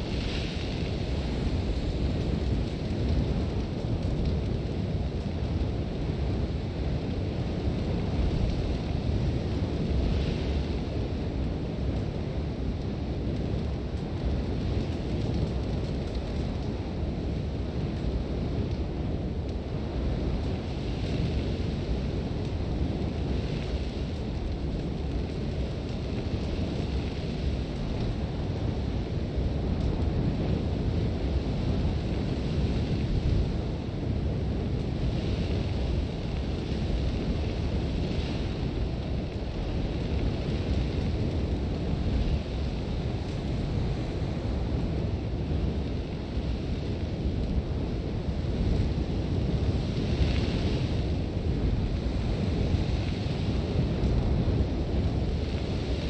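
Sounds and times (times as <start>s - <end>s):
strong wind rumbling: 0.0s - 56.0s.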